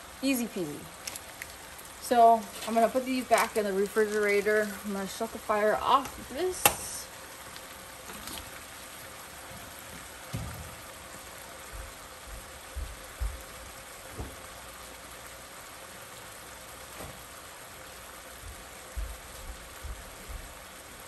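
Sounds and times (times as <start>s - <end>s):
oil sizzling in a pan: 0.0s - 21.0s.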